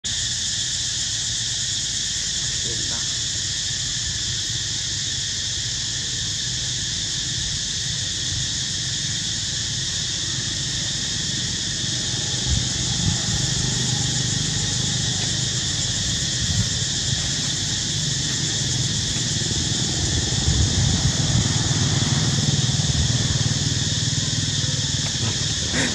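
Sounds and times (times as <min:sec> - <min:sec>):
shrill insect chorus: 0:00.0 - 0:25.9.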